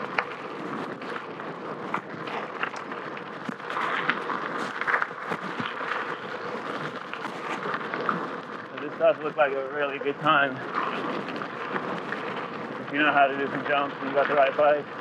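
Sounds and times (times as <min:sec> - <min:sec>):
tyre and wind noise: 0:00.0 - 0:15.0.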